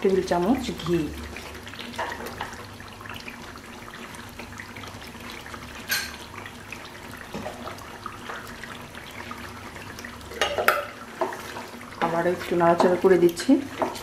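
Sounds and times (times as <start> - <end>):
curry bubbling in a pan: 0.0 - 14.0.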